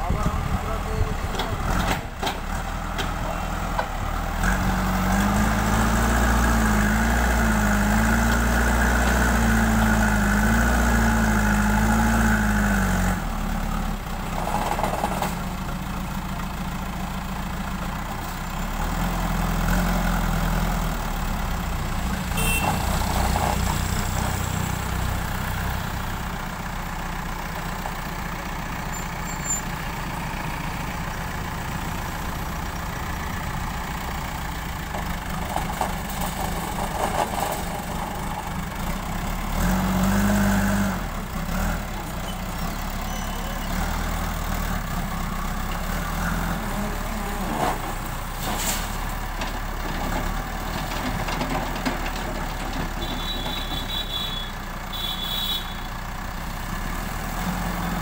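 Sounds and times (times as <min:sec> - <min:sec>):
diesel engine revving: 0:00.0 - 0:55.3, 0:55.9 - 0:58.0.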